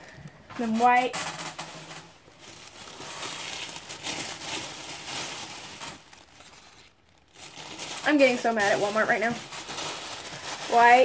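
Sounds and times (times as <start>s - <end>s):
tissue paper rustling: 0.6s - 11.0s.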